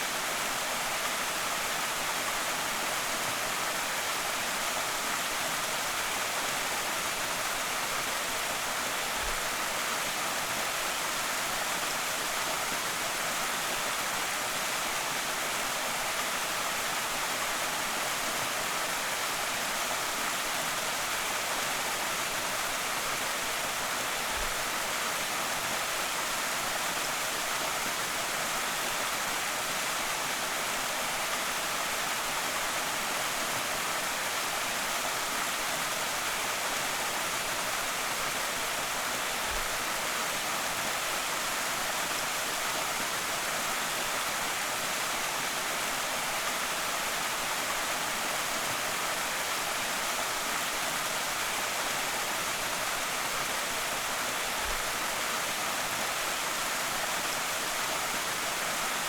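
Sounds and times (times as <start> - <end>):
waterfall pouring and splashing: 0.0 - 59.0.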